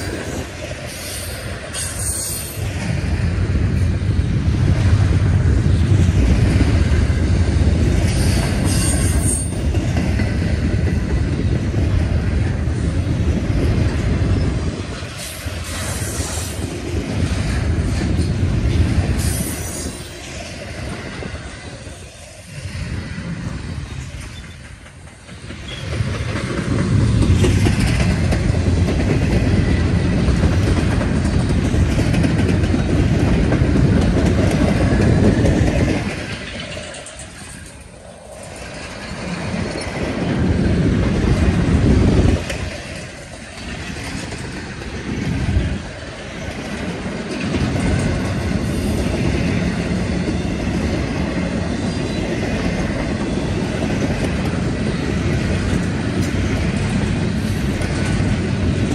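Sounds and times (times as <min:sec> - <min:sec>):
train wheels clattering on rails: 0:00.0 - 0:58.9.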